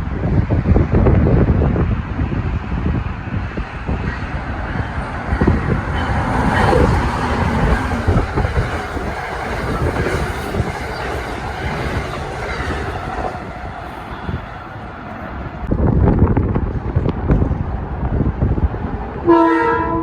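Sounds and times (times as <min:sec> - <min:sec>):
train wheels on rail: 0:00.0 - 0:19.3.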